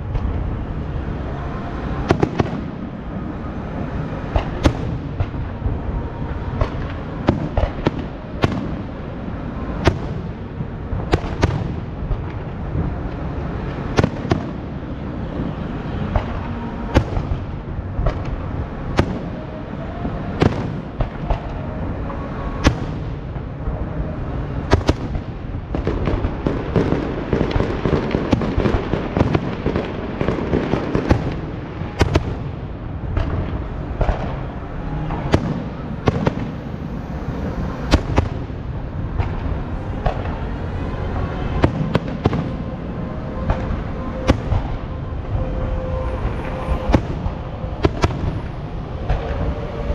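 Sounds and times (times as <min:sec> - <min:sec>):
low rumble of firework bursts: 0:00.0 - 0:49.9.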